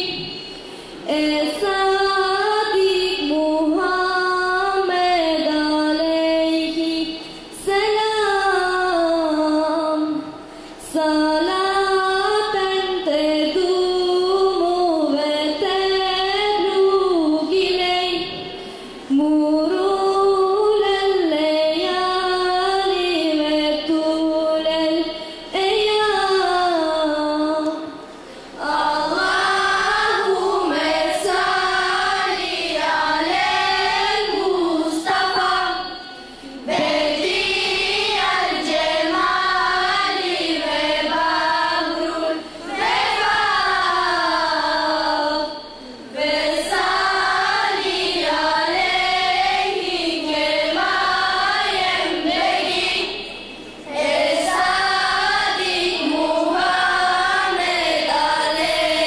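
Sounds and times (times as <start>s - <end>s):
girl singing unaccompanied: 1.0s - 53.2s.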